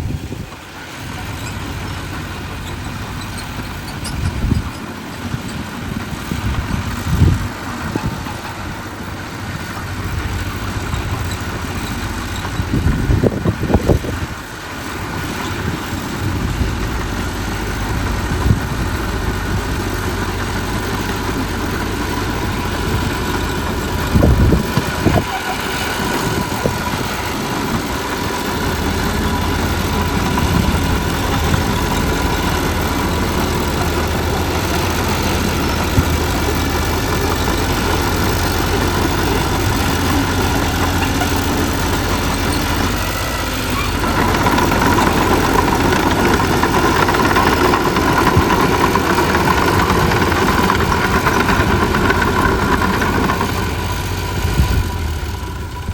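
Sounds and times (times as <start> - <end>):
diesel construction machinery running: 0.0 - 55.9.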